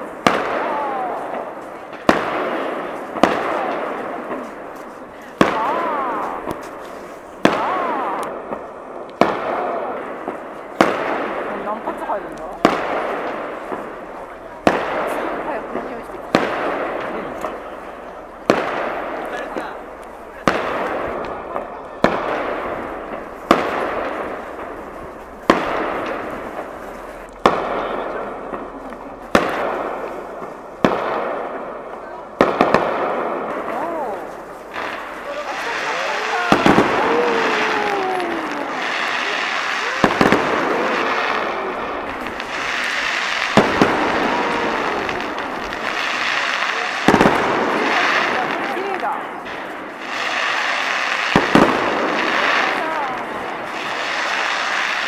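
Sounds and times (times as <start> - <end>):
firework shells booming: 0.0 - 55.0
rolling echo: 0.0 - 55.0.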